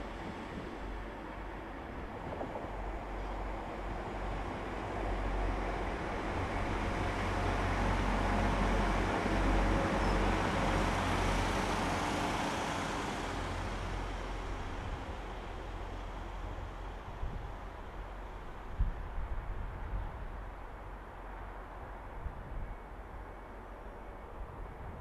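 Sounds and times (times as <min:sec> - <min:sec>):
train wheels rumbling on rails: 0:00.0 - 0:20.6.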